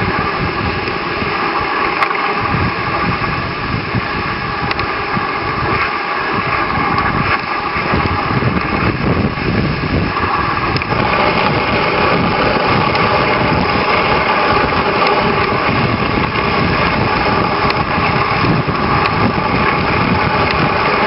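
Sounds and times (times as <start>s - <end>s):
sled runners scraping on snow: 0.0s - 21.0s.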